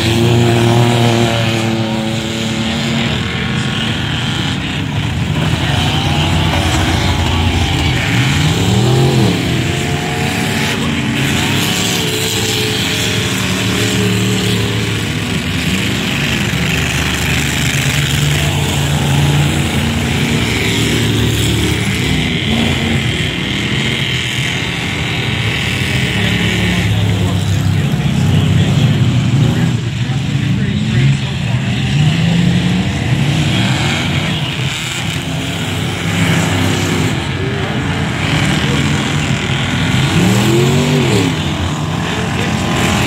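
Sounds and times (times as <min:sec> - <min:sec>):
race truck engines passing: 0:00.0 - 0:43.0.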